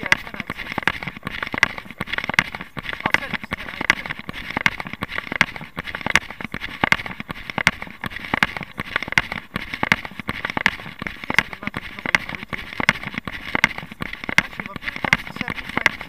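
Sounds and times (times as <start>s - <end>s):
running footsteps on pavement: 0.0s - 16.0s.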